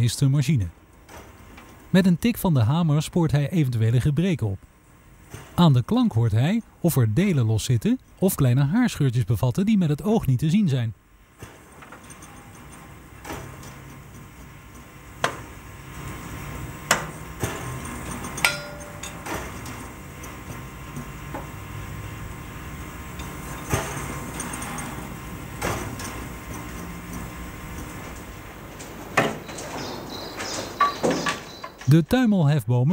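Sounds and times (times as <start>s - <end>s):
steady low hum: 0.0s - 30.8s.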